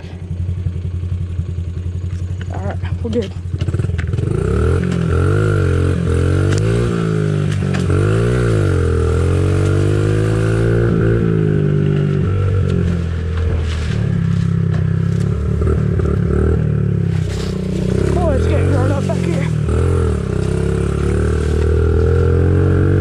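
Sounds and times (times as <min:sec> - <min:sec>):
pit bike engine revving: 0:00.0 - 0:23.0.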